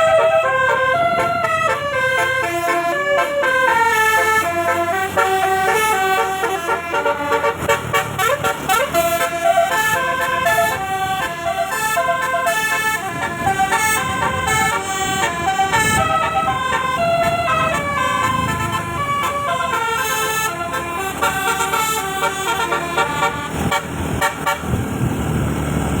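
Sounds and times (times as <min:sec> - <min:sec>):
musical air horn tune: 0:00.0 - 0:16.8, 0:17.4 - 0:24.7
vehicle rumble: 0:00.0 - 0:26.0.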